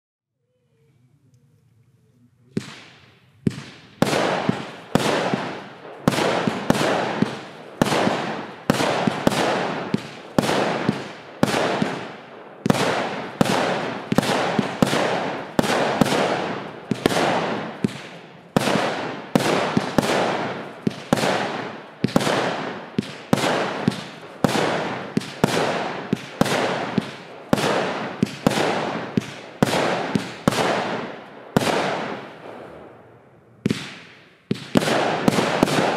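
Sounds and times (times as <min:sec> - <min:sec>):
firework bangs: 0:02.5 - 0:35.9.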